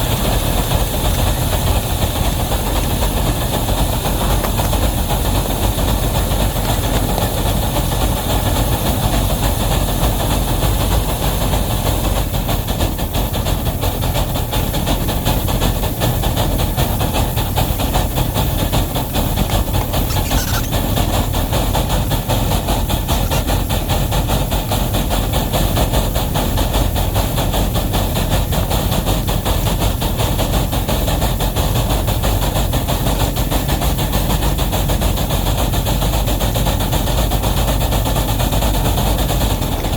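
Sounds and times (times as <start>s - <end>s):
heavy train rumbling: 0.0s - 39.9s
train hiss: 0.0s - 39.9s
wheels clacking on rail joints: 0.0s - 39.9s.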